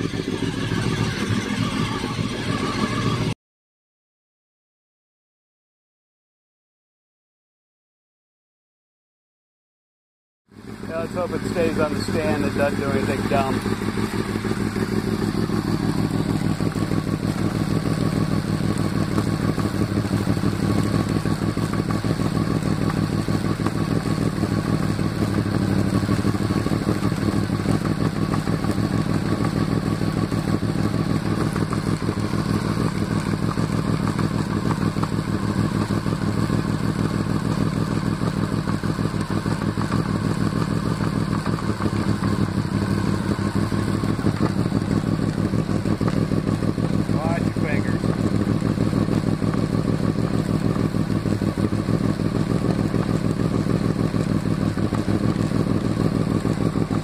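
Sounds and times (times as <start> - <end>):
motorcycle engine idling: 0.0 - 3.4, 10.5 - 57.0.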